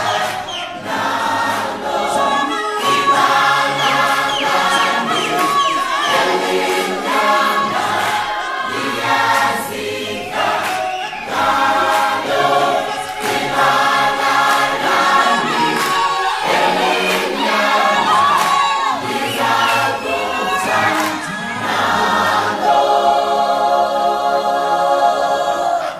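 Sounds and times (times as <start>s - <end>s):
choir singing held chords: 0.0s - 25.9s.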